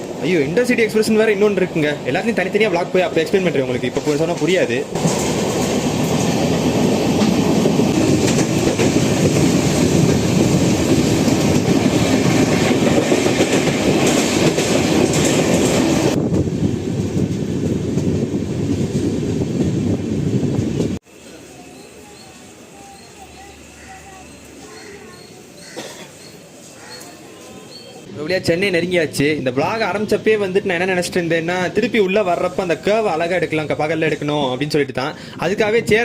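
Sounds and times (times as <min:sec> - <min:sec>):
train rumbling on rails: 0:00.0 - 0:34.3.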